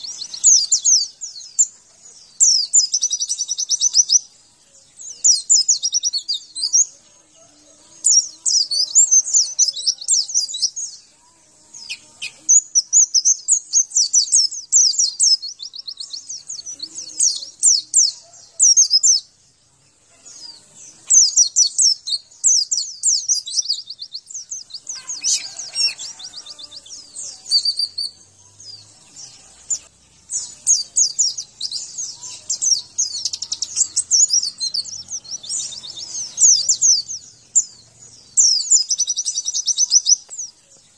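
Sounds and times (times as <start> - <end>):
bird twittering song: 0.0 - 40.9.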